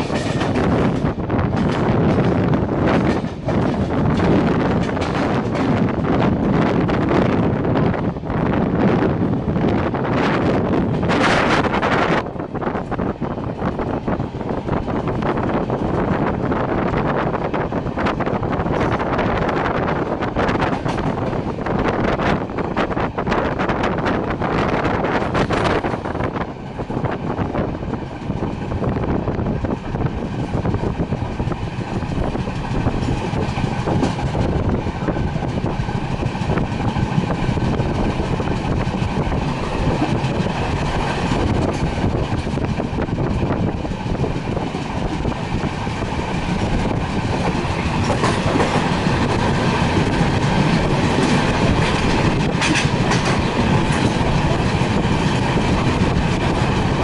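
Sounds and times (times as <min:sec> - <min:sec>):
train wheels rattling on rails: 0:00.0 - 0:57.0.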